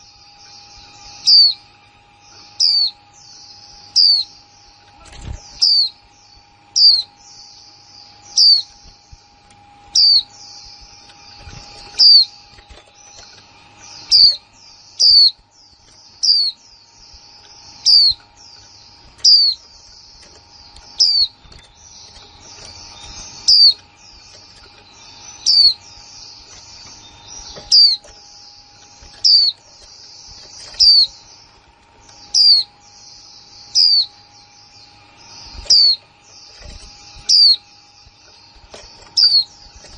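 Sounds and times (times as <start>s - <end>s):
high twittering bird chatter: 0.0s - 39.9s.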